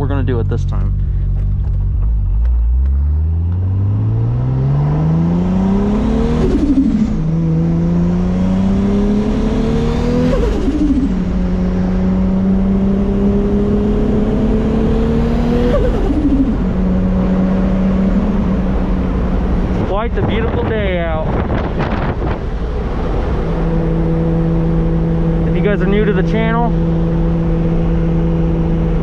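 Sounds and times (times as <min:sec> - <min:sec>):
car engine accelerating: 0:00.0 - 0:29.0
high turbo whine: 0:00.0 - 0:29.0.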